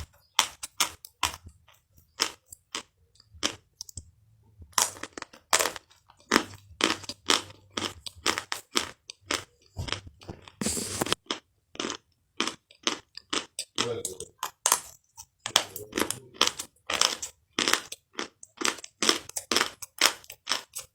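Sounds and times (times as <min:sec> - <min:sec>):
crunching and chewing: 0:00.0 - 0:20.9.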